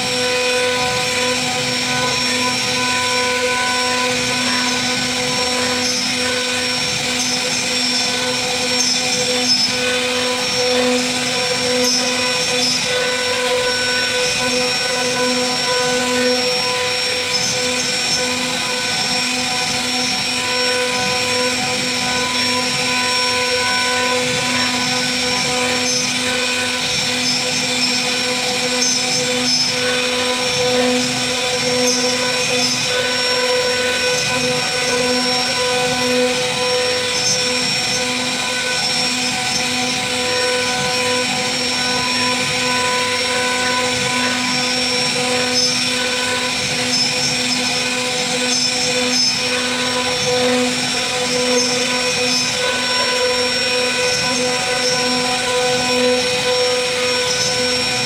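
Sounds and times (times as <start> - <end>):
router spindle whine: 0.0 - 58.0.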